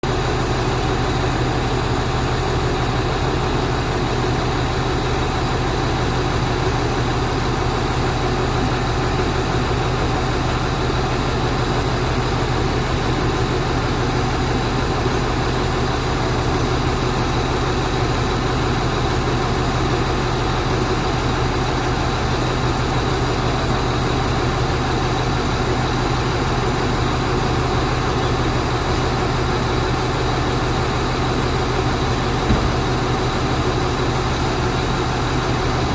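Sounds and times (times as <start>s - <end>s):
truck engine running: 0.0s - 35.9s.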